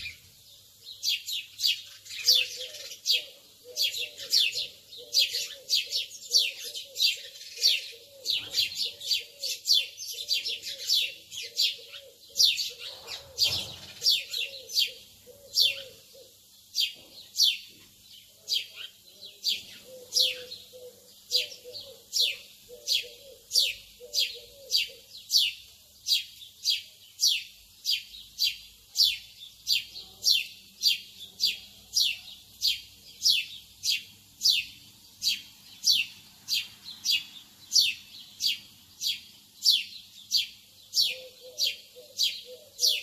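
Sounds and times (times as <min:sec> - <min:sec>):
bird chirping: 0:00.0 - 0:43.0.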